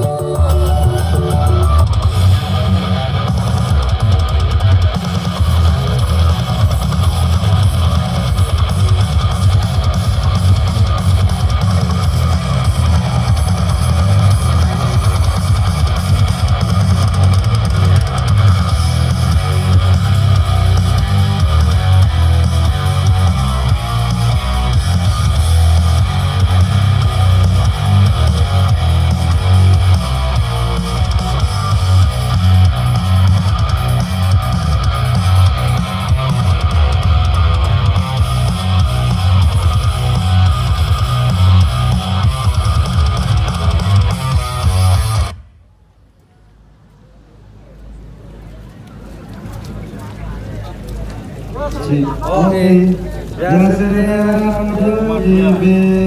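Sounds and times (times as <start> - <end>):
loud music with heavy bass: 0.0 - 45.3, 52.2 - 56.0.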